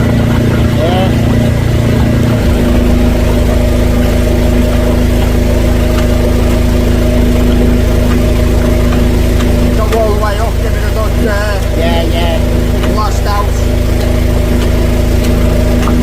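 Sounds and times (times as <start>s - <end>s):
drain jetter engine running: 0.0s - 16.0s.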